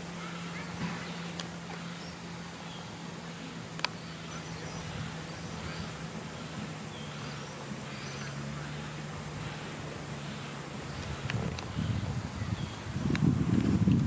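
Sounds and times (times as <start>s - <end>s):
insects droning: 0.0s - 14.0s
low steady hum: 0.0s - 14.0s.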